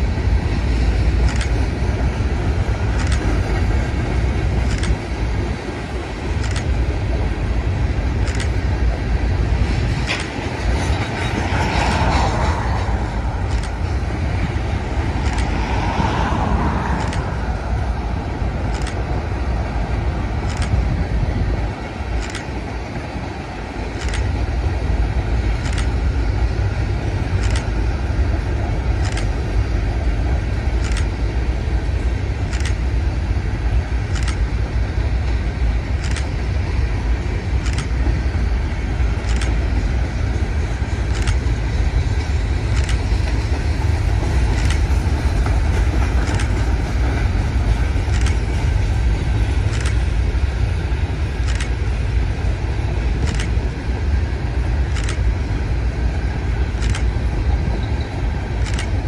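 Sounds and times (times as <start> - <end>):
low train rumble: 0.0 - 59.0
train wheels clacking on rails: 0.0 - 59.0.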